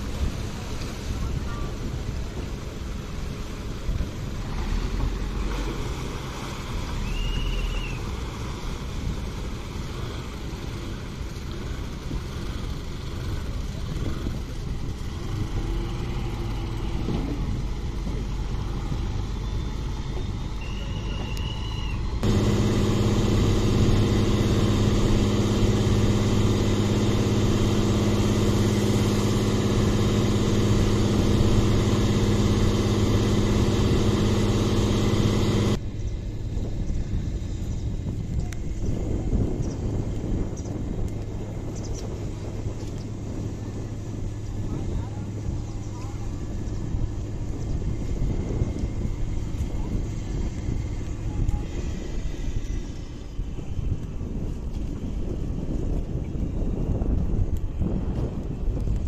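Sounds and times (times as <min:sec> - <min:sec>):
boat engine running: 0:00.0 - 0:59.0
wind and water noise: 0:00.0 - 0:59.0.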